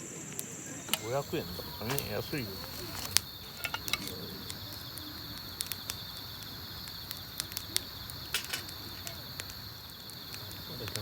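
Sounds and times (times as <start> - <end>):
campfire crackling and popping: 0.0 - 11.0
crickets chirring: 0.0 - 11.0.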